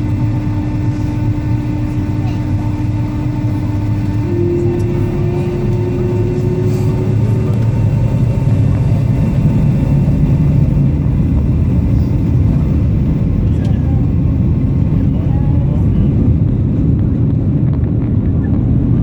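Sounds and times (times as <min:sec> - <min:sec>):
jet engines rumbling in cabin: 0:00.0 - 0:19.0
steady whine rising in pitch: 0:00.0 - 0:19.0.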